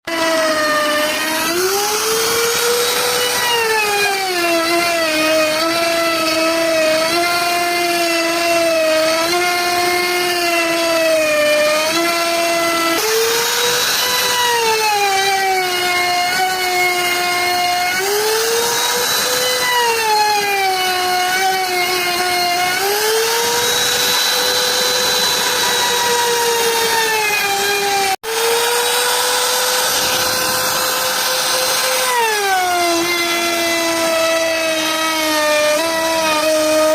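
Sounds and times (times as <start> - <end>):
router spindle whining: 0.1 - 36.9.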